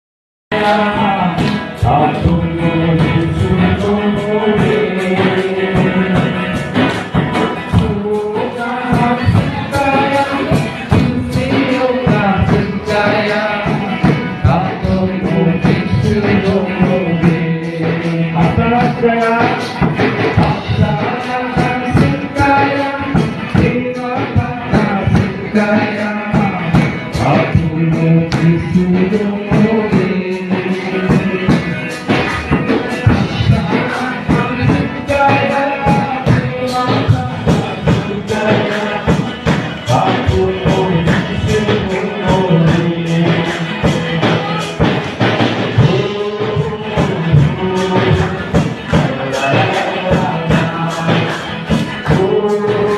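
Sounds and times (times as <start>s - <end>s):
steady percussion beat: 0.5s - 52.9s
voices singing worship song: 0.5s - 52.9s.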